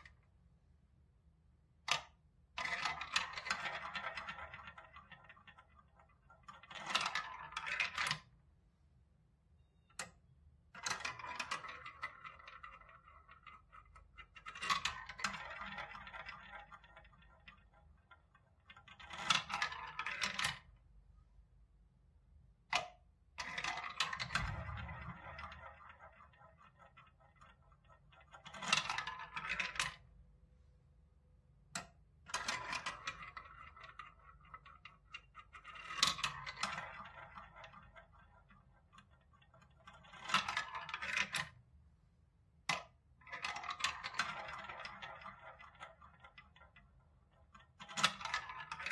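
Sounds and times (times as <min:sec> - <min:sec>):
balls clicking into a tray: 0:01.8 - 0:08.4, 0:09.9 - 0:20.9, 0:22.6 - 0:30.2, 0:31.6 - 0:41.7, 0:42.5 - 0:48.9
balls rolling through plastic tubes: 0:01.8 - 0:08.6, 0:10.0 - 0:21.0, 0:21.9 - 0:48.9.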